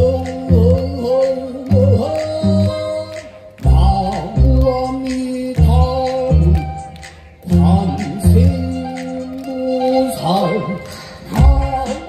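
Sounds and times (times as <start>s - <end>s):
deep bass beat: 0.0s - 9.3s, 11.3s - 12.0s.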